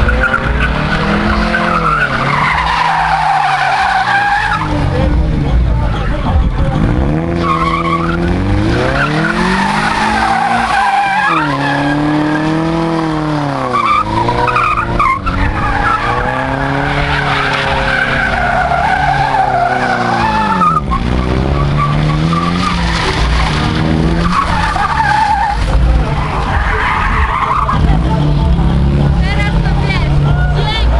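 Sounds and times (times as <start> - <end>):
tyres squealing: 0.0 - 4.9, 6.8 - 28.8
car engine revving: 0.0 - 30.9.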